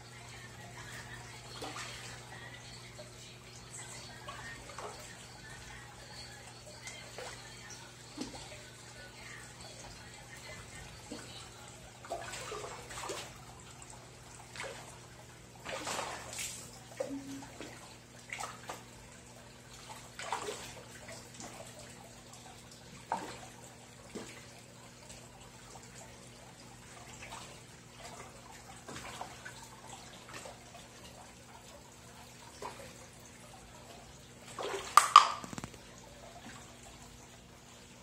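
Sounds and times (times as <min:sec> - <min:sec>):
fish splashing and slurping: 0:00.0 - 0:38.0.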